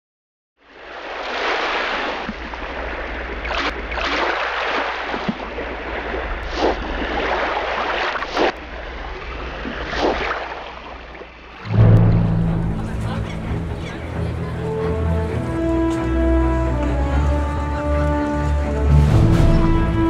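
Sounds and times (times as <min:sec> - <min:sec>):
water rushing and spraying: 0:00.6 - 0:20.0
waves splashing against boat: 0:00.7 - 0:17.7.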